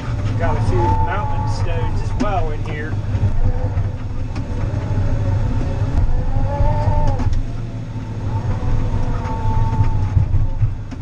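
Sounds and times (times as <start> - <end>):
diesel engine under load: 0.0 - 11.0
hydraulic whine: 0.0 - 11.0.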